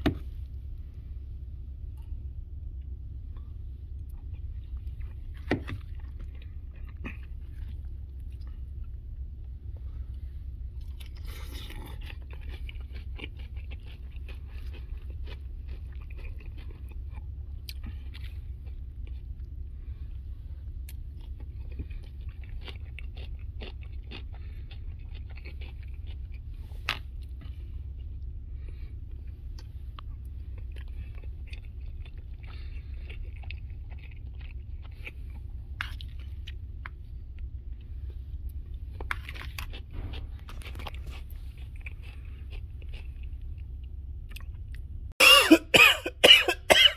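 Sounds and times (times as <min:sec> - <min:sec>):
low hum: 0:00.0 - 0:46.9
chewing food: 0:02.8 - 0:44.9.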